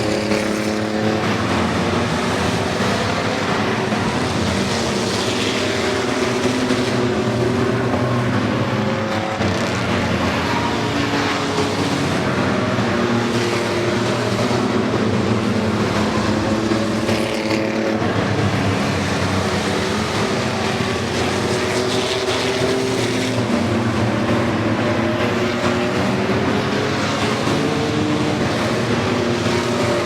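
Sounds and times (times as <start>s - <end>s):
racing truck engines: 0.0s - 30.0s.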